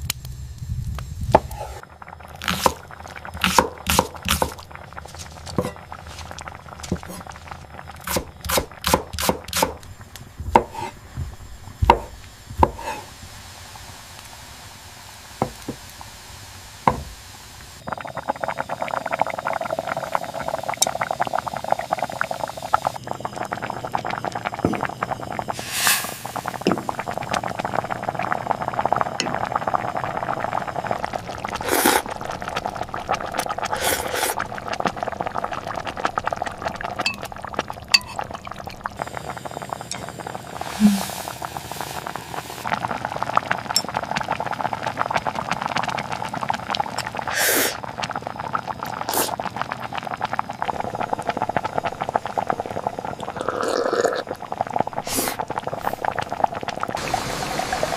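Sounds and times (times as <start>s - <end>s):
dense crackling hiss: 0.0s - 37.4s, 38.3s - 57.9s.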